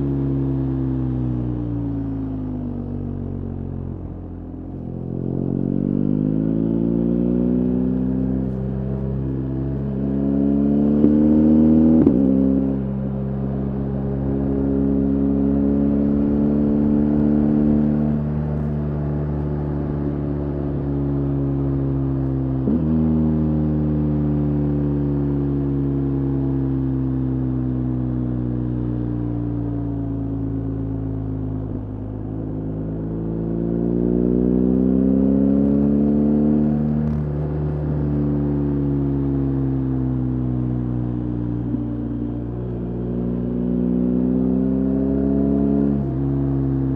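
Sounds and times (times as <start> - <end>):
motorcycle engine on the road: 0.0 - 46.9.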